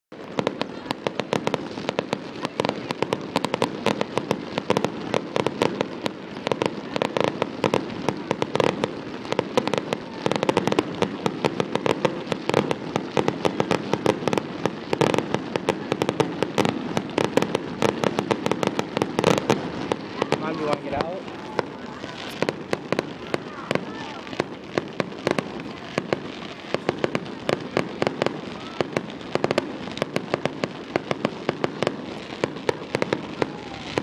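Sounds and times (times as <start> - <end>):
fireworks bangs and crackles: 0.1 - 34.0.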